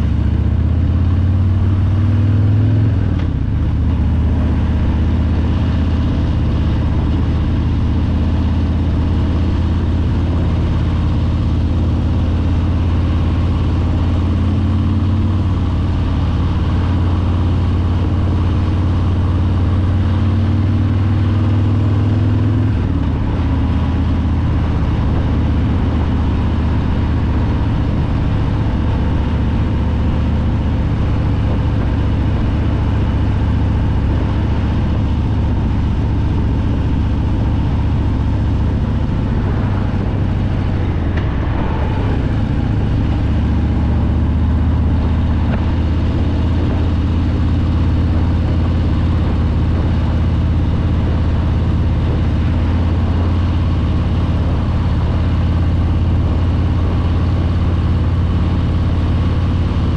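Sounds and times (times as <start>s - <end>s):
motorcycle engine while riding: 0.0s - 59.9s.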